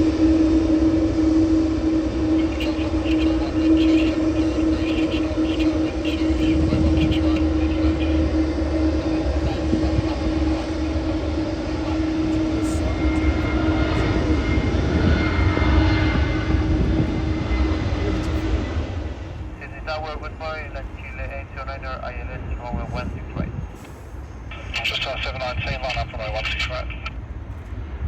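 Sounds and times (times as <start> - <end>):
high engine whine: 0.0 - 28.0
jet engines running loudly: 0.0 - 28.0.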